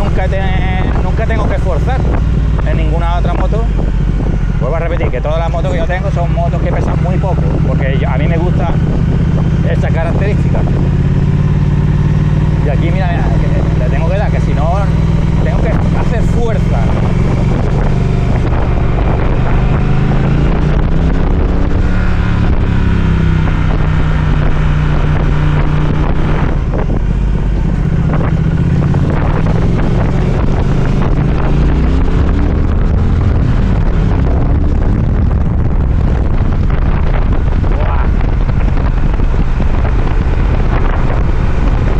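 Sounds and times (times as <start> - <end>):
motorcycle engine running: 0.0 - 41.9
wind noise on microphone: 0.0 - 41.9.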